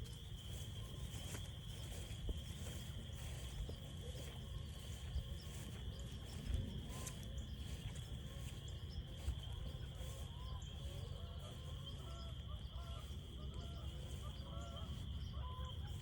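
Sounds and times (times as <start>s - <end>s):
frogs trilling in chorus: 0.0s - 16.0s.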